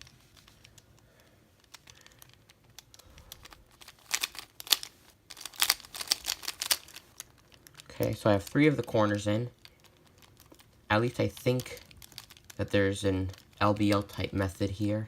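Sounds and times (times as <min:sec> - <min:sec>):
puzzle cube plastic clicks: 0:00.0 - 0:14.2.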